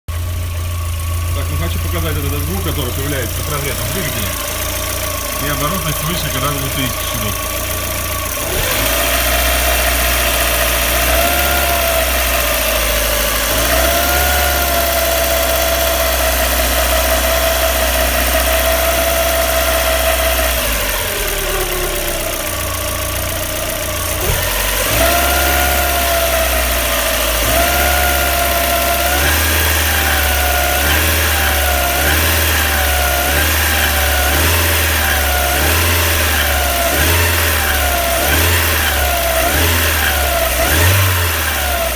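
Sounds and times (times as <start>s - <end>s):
car engine revving: 0.1s - 41.9s.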